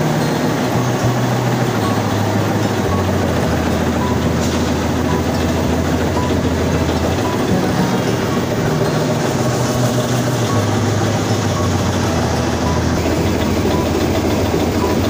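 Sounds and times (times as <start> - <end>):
low machine hum: 0.0 - 15.0
rollers mechanical din: 0.0 - 15.0.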